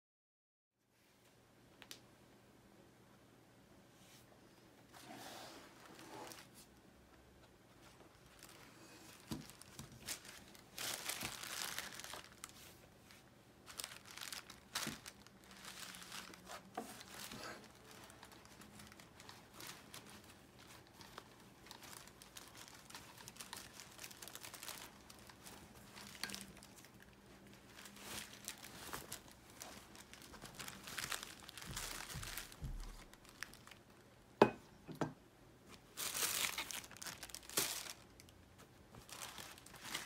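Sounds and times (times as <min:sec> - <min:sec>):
fabric gift bag rustling: 0:04.9 - 0:06.7, 0:07.7 - 0:33.9, 0:35.7 - 0:40.0.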